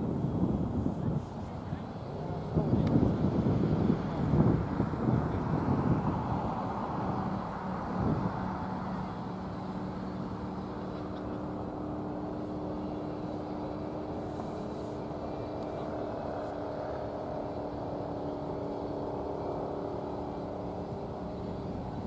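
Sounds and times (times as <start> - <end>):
machine drone with held tones: 0.0 - 22.0
outdoor rumble: 0.0 - 22.0.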